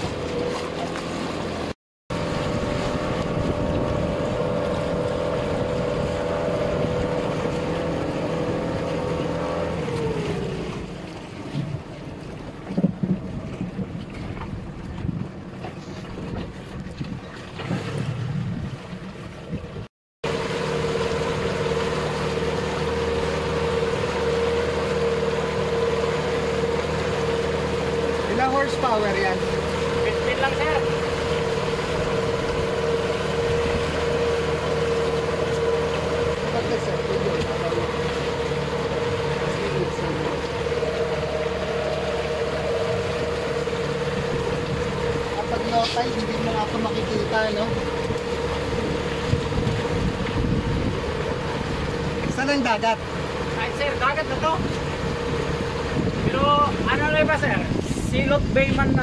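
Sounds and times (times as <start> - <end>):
small boat engine running: 0.0 - 59.0
water noise: 0.0 - 59.0
wind: 0.0 - 59.0.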